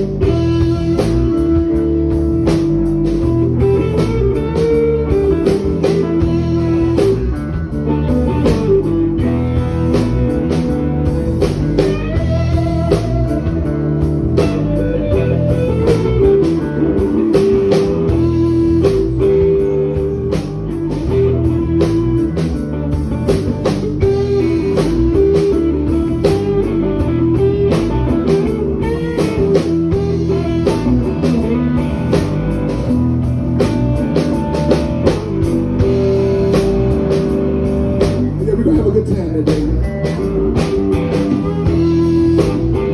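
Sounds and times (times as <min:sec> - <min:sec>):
drum beat: 0:00.0 - 0:42.9
electric guitar lead: 0:00.0 - 0:42.9
rhythm guitar: 0:00.0 - 0:42.9.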